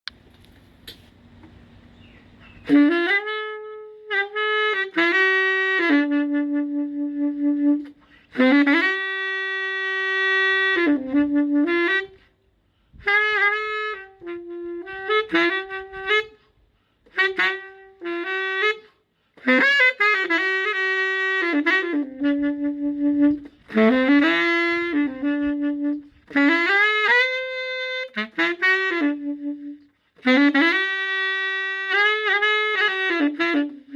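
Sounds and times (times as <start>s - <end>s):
wind instrument slow melody: 2.1s - 33.9s.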